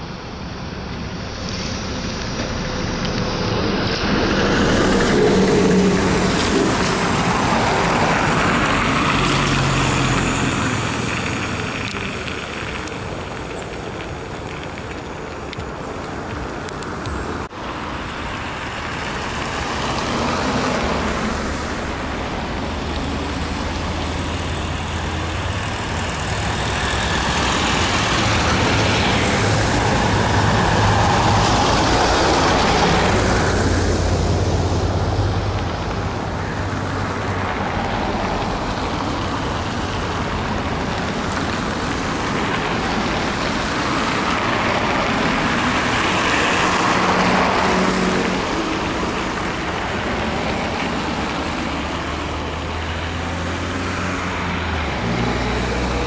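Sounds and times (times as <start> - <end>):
road traffic: 0.0 - 56.0
trolleybus passing: 0.0 - 56.0.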